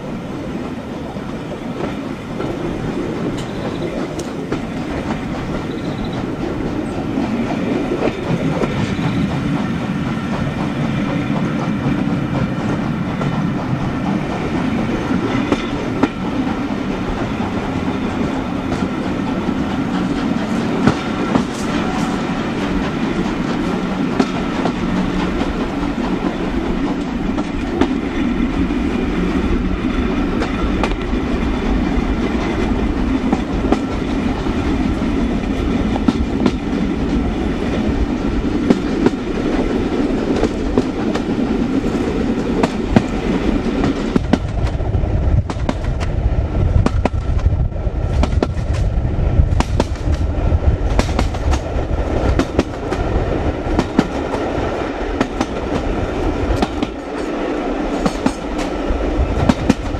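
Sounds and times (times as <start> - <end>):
rail joint clicks: 0.0 - 59.9
train wheels rumbling on track: 0.0 - 59.9.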